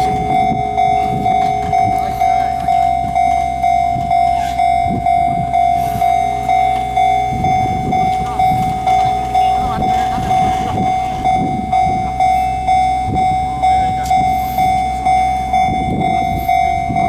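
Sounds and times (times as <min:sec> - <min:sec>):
level-crossing bell ringing: 0:00.0 - 0:17.0.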